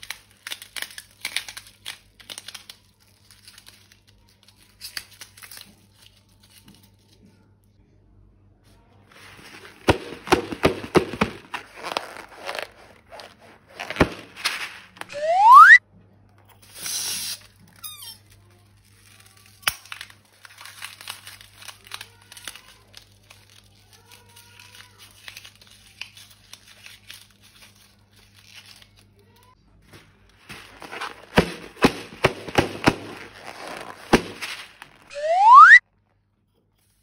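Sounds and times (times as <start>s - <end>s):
slime and plastic crinkling: 0.0s - 7.3s, 9.1s - 15.1s, 17.2s - 35.1s.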